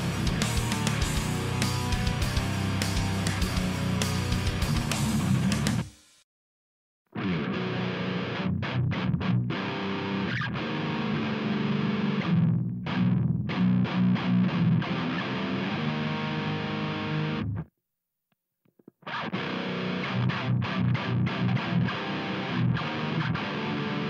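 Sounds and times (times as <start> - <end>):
distorted electric guitar riffing: 0.0 - 5.9, 7.2 - 17.7, 18.8 - 24.0.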